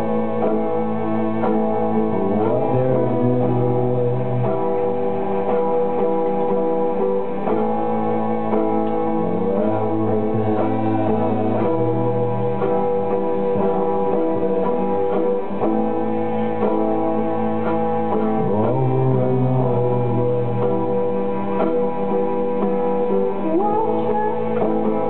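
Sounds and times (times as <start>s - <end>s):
acoustic guitar picking: 0.0s - 25.0s
electronic drone tones: 0.0s - 25.0s.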